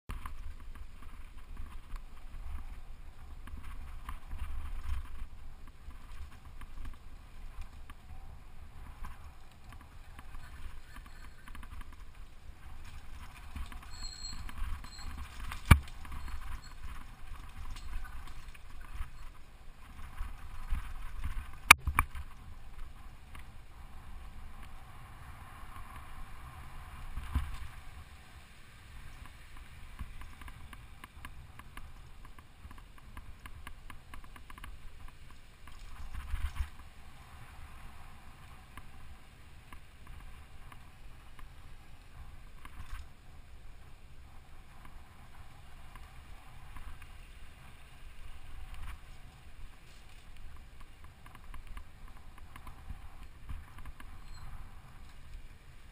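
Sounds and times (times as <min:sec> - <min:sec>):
bike tyres and frame rattling: 0:00.1 - 0:28.1, 0:29.0 - 0:55.9.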